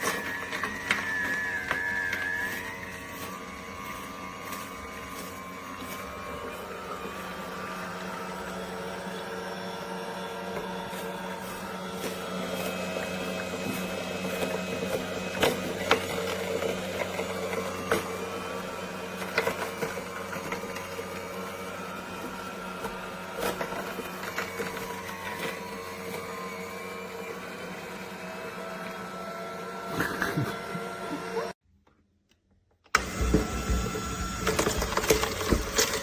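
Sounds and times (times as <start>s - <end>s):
juicer motor humming: 0.0s - 31.6s, 32.9s - 36.0s.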